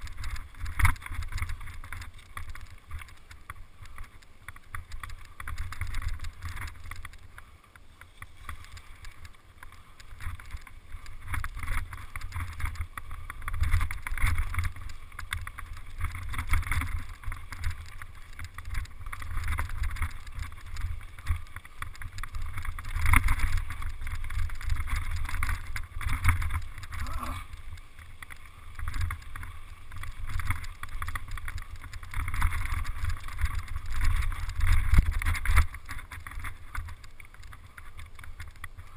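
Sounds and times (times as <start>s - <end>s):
mountain bike rattling over dirt: 0.0s - 38.9s
wind rumbling on microphone: 0.0s - 38.9s.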